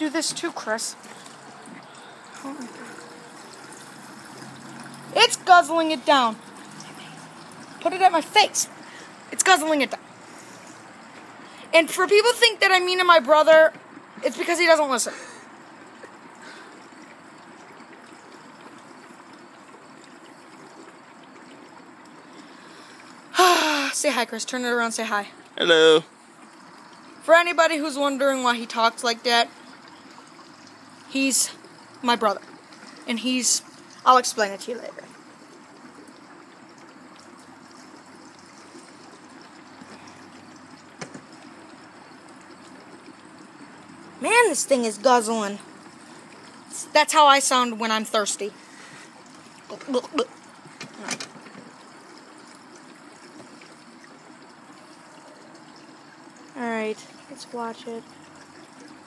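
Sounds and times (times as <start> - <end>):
fuel pouring into tank: 0.0 - 59.0.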